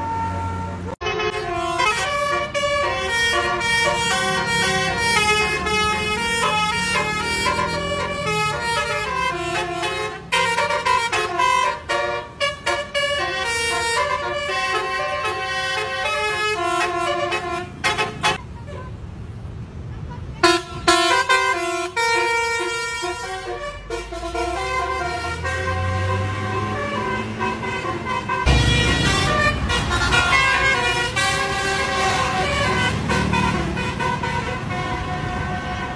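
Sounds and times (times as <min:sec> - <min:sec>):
multi-tone air horn tune: 0:00.0 - 0:18.9, 0:20.4 - 0:35.9.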